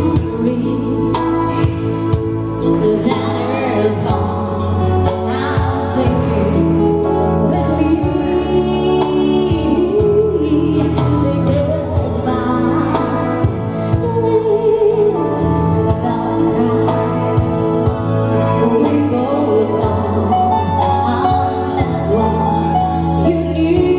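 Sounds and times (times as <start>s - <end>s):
synthesizer chords: 0.0s - 23.9s
woman singing into a microphone: 0.0s - 23.9s.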